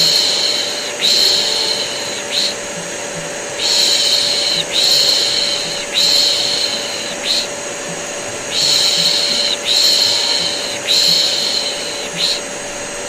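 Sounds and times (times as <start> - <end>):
vacuum cleaner hum: 0.0 - 13.0.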